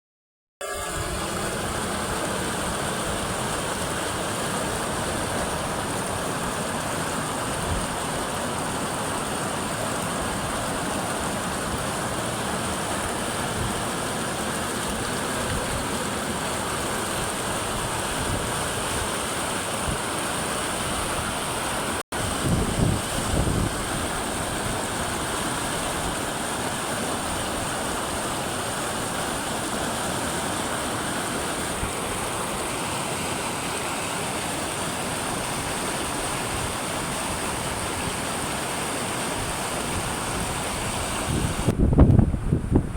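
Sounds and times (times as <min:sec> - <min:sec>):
running water rushing: 0:00.6 - 0:42.9.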